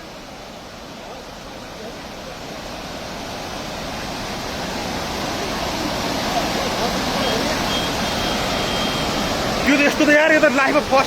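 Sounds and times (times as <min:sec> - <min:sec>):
flood river rushing: 0:00.0 - 0:11.0.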